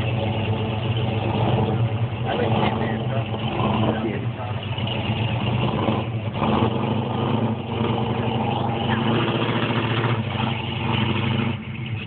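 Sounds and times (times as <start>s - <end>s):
pickup truck engine running: 0.0s - 12.0s
truck driving through water: 0.0s - 12.0s.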